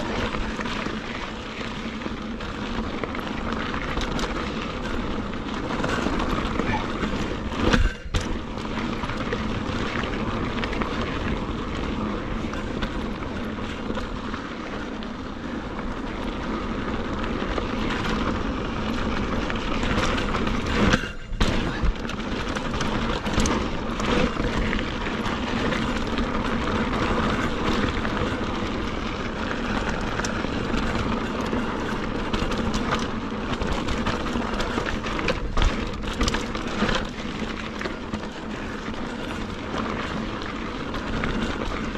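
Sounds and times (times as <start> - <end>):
bike rattling and knocking: 0.0 - 41.9
bike tyres on loose dirt: 0.0 - 41.9.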